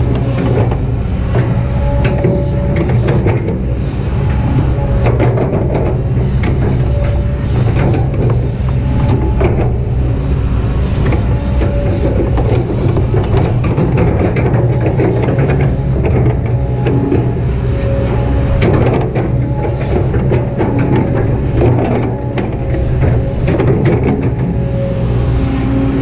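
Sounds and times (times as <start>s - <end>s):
machine clanks and rattles: 0.0s - 24.8s
excavator diesel engine running: 0.0s - 26.0s
hydraulic whine: 0.0s - 26.0s.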